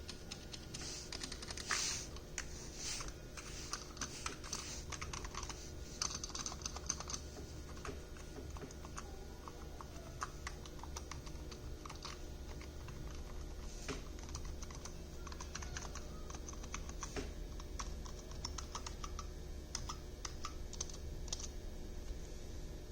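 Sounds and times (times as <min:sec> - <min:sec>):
faint low hum: 0:00.0 - 0:22.9.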